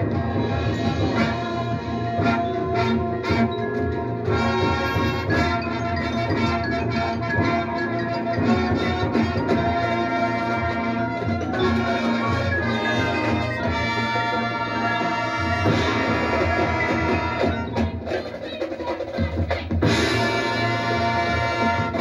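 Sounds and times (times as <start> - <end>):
brass chords: 0.0 - 18.2, 19.8 - 22.0
drumline percussion: 0.0 - 22.0.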